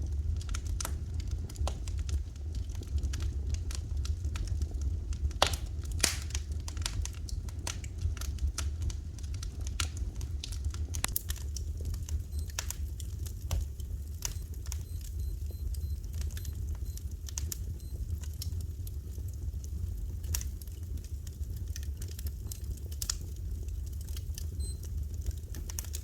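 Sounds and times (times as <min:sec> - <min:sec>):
fire crackling in fireplace: 0:00.0 - 0:26.0
low steady rumble: 0:00.0 - 0:26.0.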